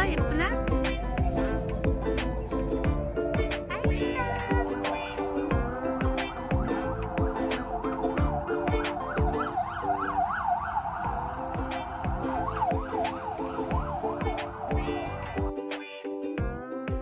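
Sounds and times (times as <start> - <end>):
upbeat electronic music: 0.0 - 17.0.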